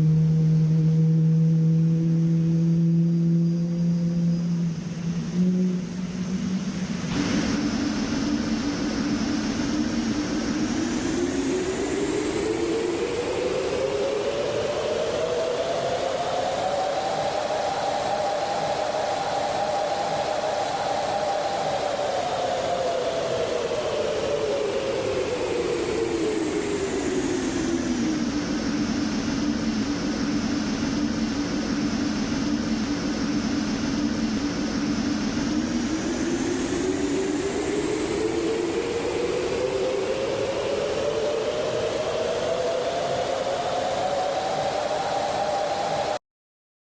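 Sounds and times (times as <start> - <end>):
turbofan engine whine and rush: 0.0 - 46.2.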